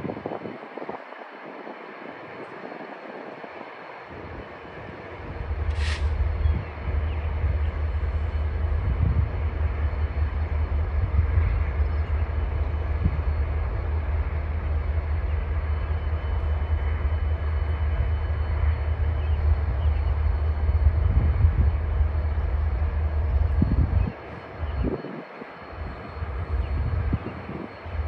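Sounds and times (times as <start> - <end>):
diesel locomotive engines rumbling: 0.0 - 28.0.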